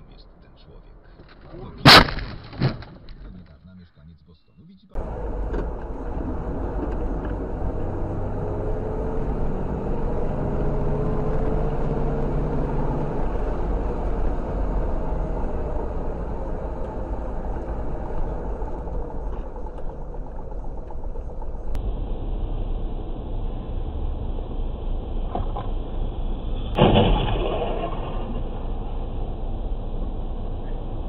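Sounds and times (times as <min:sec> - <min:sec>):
car engine and road noise: 0:04.9 - 0:31.0.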